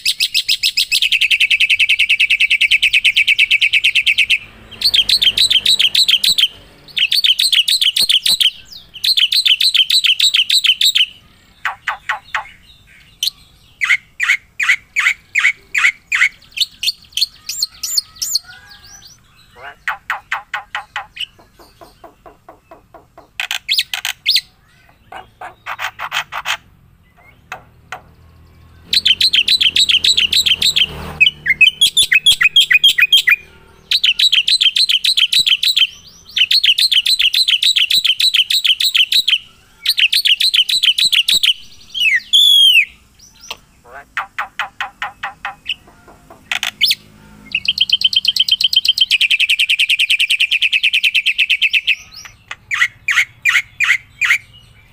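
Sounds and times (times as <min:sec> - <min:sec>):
songbird singing trills: 0:00.0 - 0:54.9.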